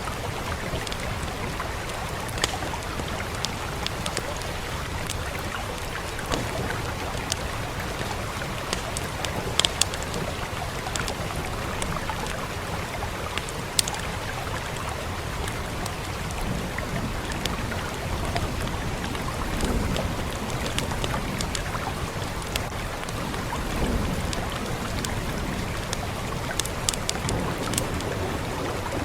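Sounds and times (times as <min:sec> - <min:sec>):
fire crackling and popping: 0:00.0 - 0:29.0
rain rushing: 0:00.0 - 0:29.0.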